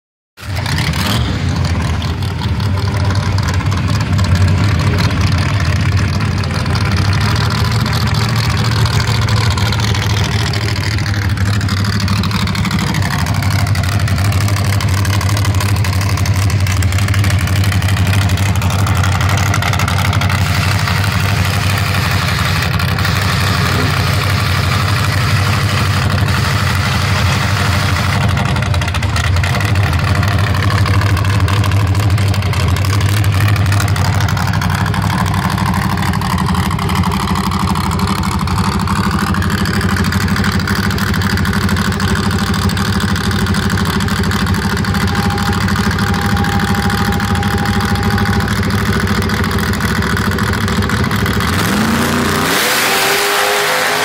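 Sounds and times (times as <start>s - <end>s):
drag car engine idling loudly: 0.4s - 54.0s.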